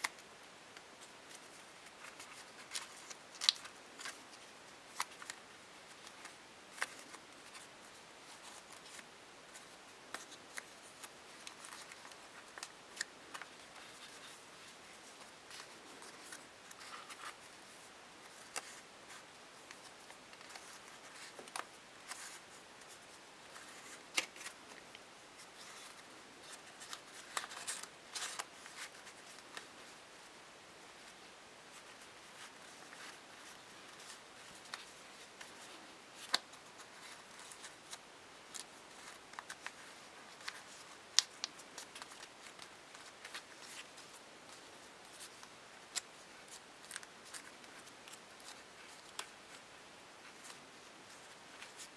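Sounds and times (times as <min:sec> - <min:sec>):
paper crinkling and rustling: 0:01.0 - 0:30.0, 0:31.7 - 0:51.9.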